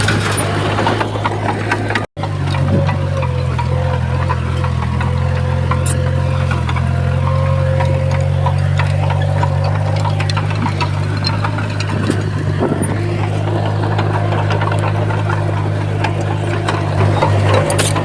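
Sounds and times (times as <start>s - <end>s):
bulldozer diesel engine running: 0.0s - 18.0s
tracks and blade clanking: 0.0s - 18.0s.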